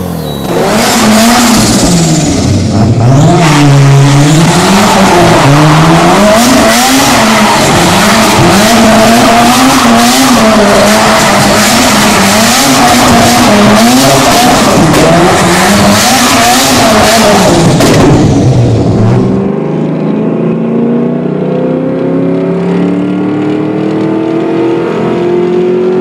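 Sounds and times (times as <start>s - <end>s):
rotary engine revving: 0.0s - 26.0s.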